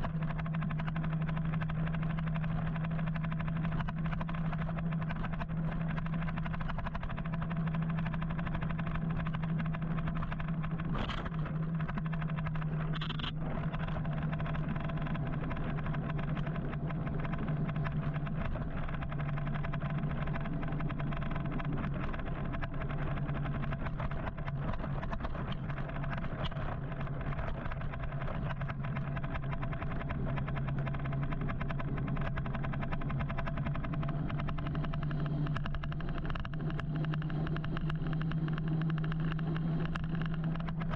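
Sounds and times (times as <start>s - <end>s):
motorcycle low hum: 0.0s - 40.9s.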